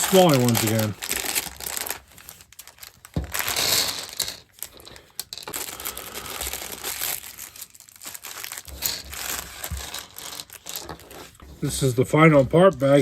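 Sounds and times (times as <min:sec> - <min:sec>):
plastic bags crinkling: 0:00.0 - 0:11.4.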